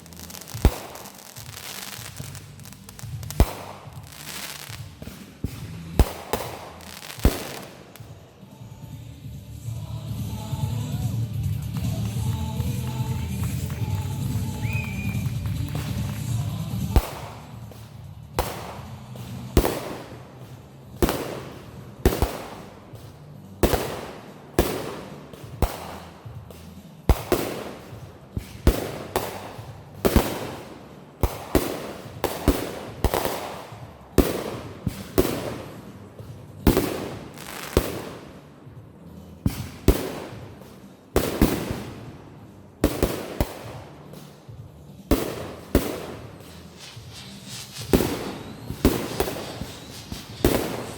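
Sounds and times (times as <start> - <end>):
fireworks bangs: 0.0 - 8.6, 11.3 - 50.9.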